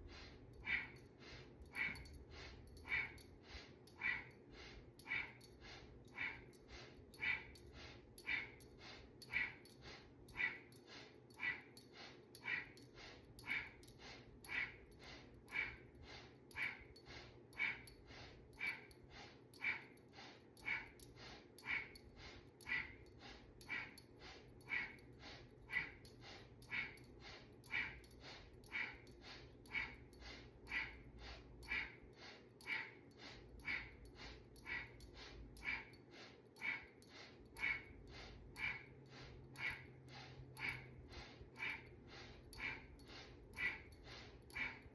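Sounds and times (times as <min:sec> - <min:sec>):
fast breathing through nose: 0:00.0 - 0:44.9.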